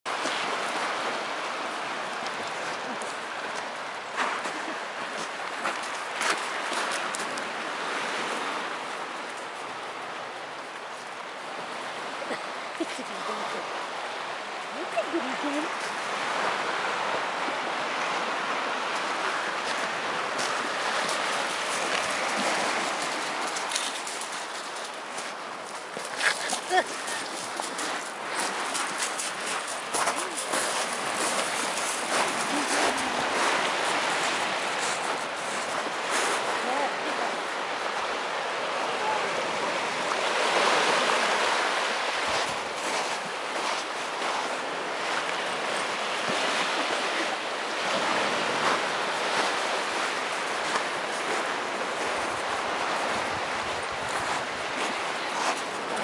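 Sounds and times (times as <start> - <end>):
waves washing onto shingle: 0.1 - 56.0.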